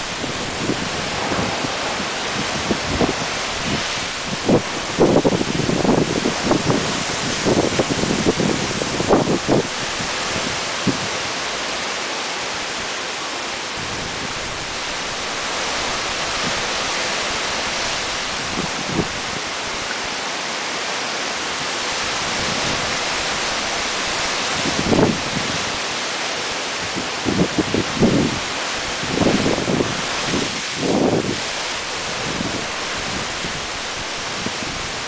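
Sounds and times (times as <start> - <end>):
wind bumps on microphone: 0.0 - 11.5, 13.7 - 20.0, 22.0 - 25.8, 26.8 - 35.0
heavy rain pouring: 0.0 - 35.0.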